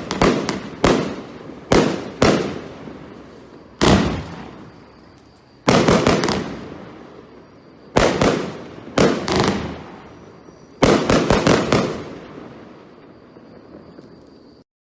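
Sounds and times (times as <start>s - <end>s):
firework bangs: 0.0s - 14.6s.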